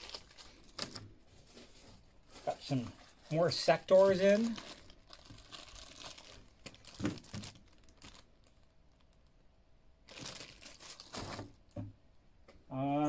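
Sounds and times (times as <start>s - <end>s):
plastic bags crinkling: 0.0s - 9.4s, 10.0s - 11.8s.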